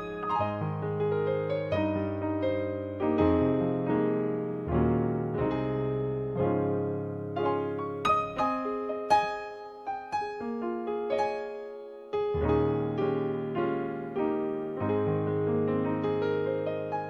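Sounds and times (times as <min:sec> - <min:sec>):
piano chords and notes: 0:00.0 - 0:17.0.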